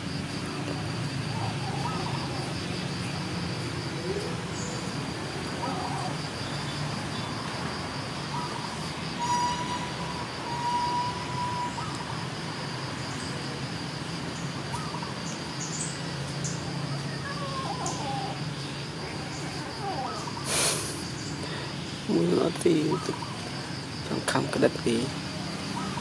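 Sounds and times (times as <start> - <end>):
high pulsing insect trill: 0.0 - 26.0.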